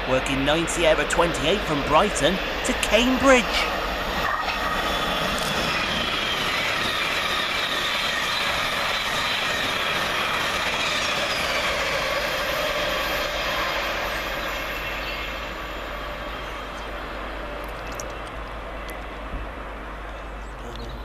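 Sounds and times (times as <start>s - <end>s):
train wheels rushing on rail: 0.0s - 20.4s.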